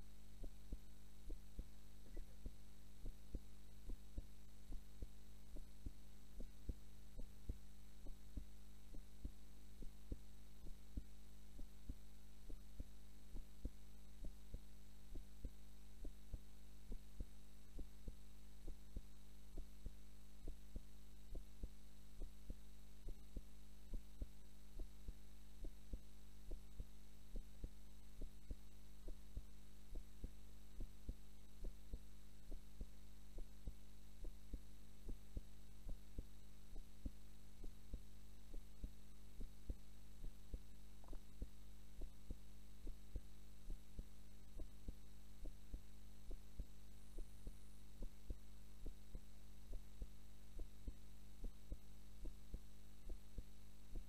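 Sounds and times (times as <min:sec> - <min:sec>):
heartbeat: 0:00.0 - 0:54.0
low steady hum: 0:00.0 - 0:54.0.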